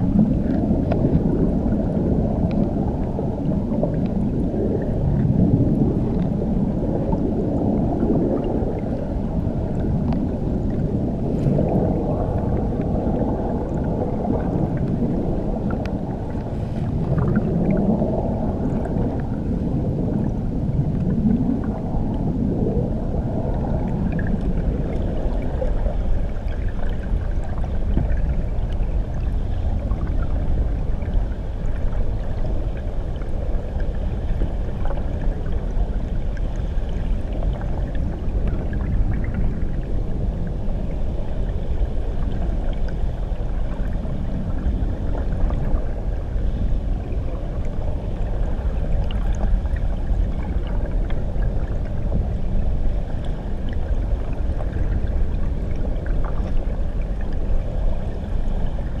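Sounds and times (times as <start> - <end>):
underwater waterfall rumble: 0.0 - 59.0.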